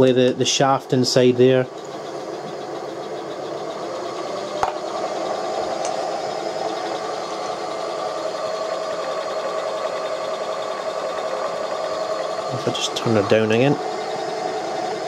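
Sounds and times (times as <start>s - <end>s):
lathe whirring: 0.0s - 15.0s.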